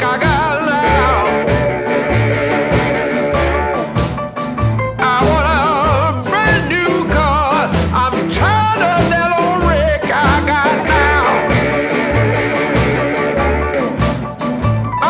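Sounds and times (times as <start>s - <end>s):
upbeat music with vibrato lead: 0.0s - 15.0s.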